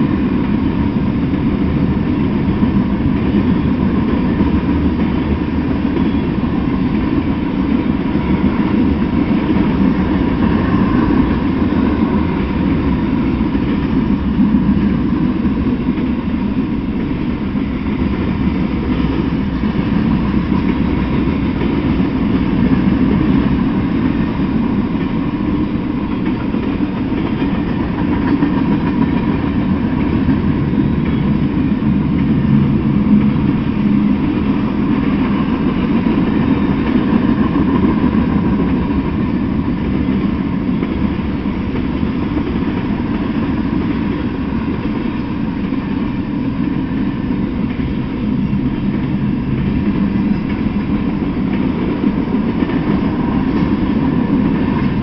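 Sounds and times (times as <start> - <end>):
freight train rolling past: 0.0 - 55.0
steel wheels rumbling on rails: 0.0 - 55.0.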